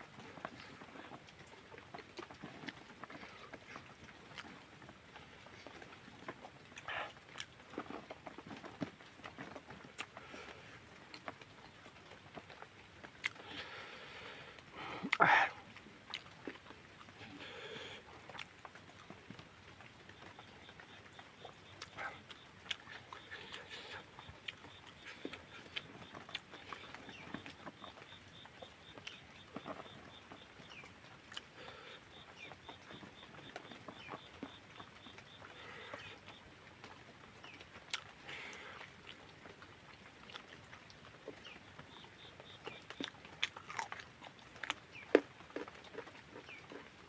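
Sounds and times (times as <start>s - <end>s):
person chewing food: 0.1s - 47.0s.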